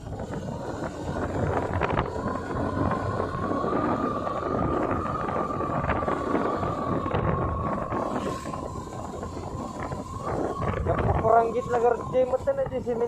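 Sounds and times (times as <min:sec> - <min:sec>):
scooter ride rumble: 0:00.0 - 0:13.0
wind buffeting microphone: 0:00.0 - 0:13.0
high-pitched whine: 0:00.2 - 0:13.0.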